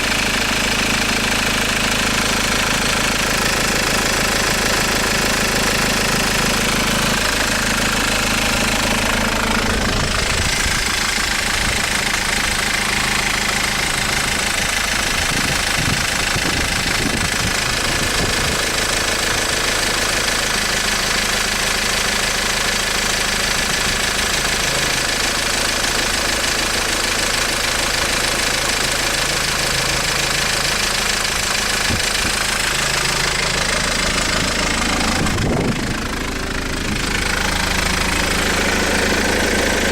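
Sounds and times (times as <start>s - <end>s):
engine running with knocking: 0.0s - 39.9s.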